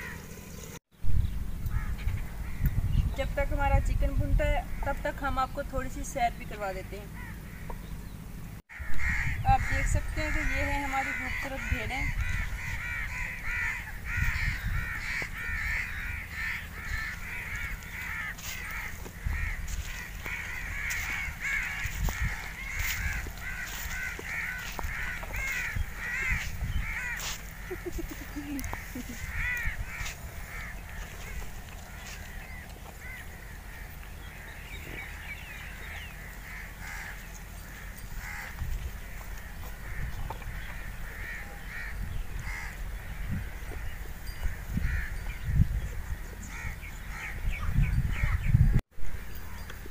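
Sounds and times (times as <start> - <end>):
chorus of bird cries: 0.0 - 5.7, 6.4 - 49.9.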